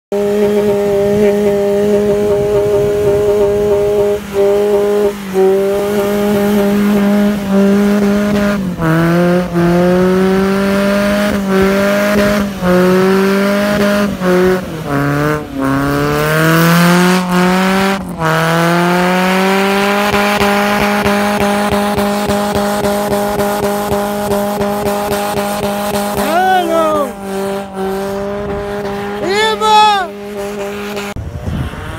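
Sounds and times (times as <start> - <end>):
engine revving high: 0.1 - 31.9.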